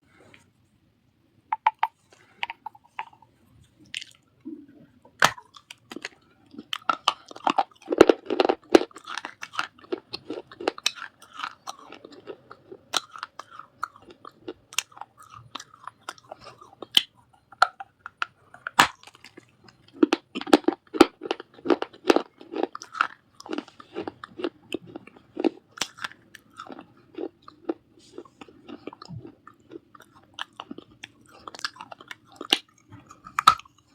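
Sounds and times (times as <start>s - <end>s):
clay pieces crunching being chewed: 3.8s - 33.9s.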